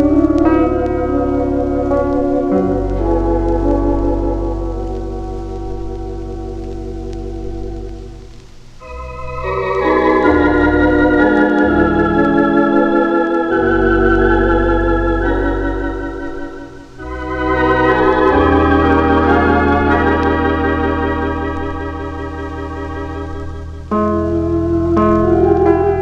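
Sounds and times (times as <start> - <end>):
organ playing hymn chords: 0.0 - 26.0.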